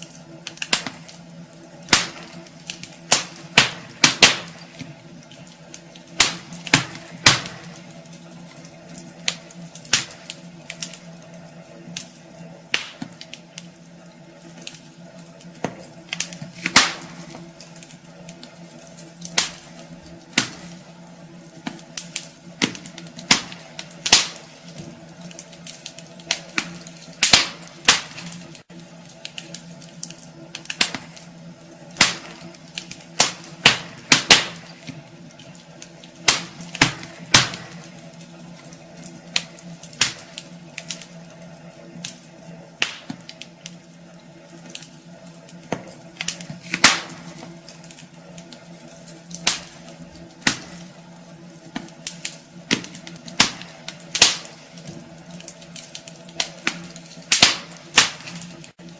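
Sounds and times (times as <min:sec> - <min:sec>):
faint steady hum: 0:00.0 - 0:58.9
wood fire crackling: 0:00.0 - 0:58.9.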